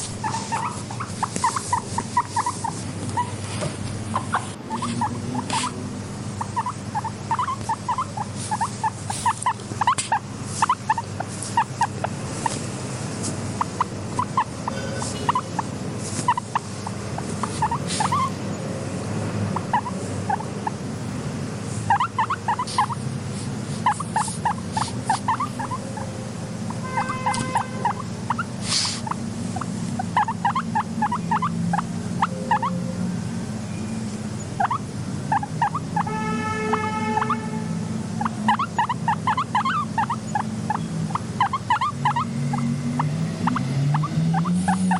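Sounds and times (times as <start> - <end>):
guinea pig chirping squeaks: 0.0 - 12.7, 13.6 - 18.6, 19.5 - 20.8, 21.8 - 33.0, 33.7 - 44.9
steady low hum: 0.0 - 44.9.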